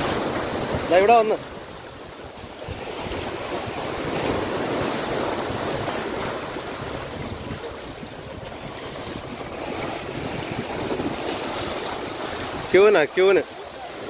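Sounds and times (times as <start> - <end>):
surf breaking over rocks: 0.0 - 14.0
wind buffeting microphone: 0.0 - 14.0.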